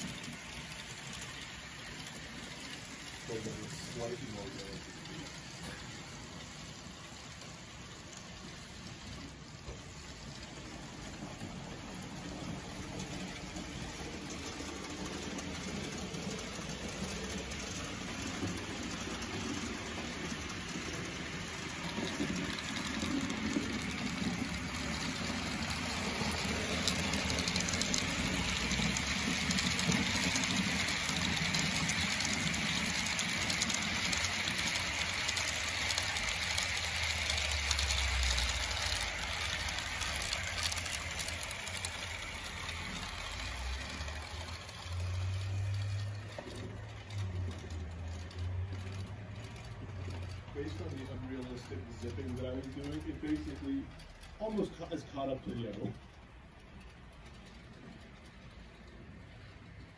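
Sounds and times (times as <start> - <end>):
model train wheels rolling on rails: 0.0 - 59.9.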